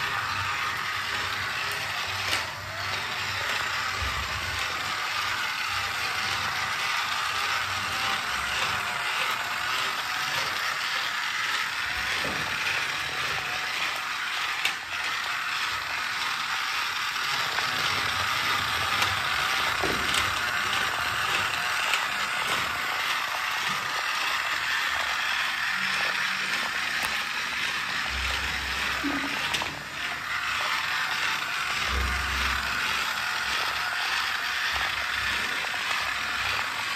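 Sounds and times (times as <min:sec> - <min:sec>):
toy car motor whirring: 0:00.0 - 0:36.9.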